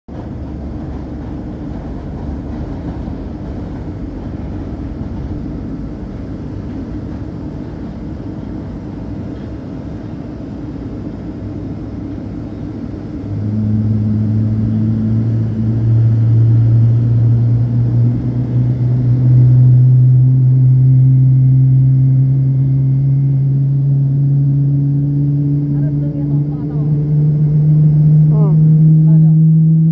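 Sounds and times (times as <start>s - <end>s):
engines rumbling: 0.1s - 29.9s
low engine drone rising in pitch: 0.1s - 29.9s.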